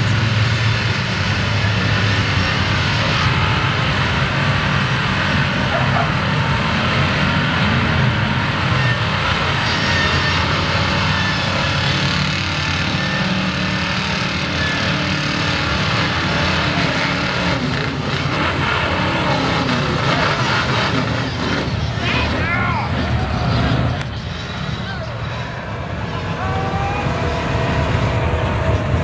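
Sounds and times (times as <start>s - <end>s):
tires churning through mud: 0.0s - 29.0s
truck engine running hard: 0.0s - 29.0s.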